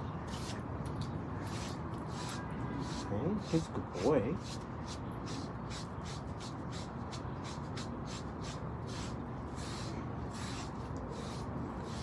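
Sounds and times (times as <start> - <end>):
comb rasping through dog fur: 1.5 - 12.0.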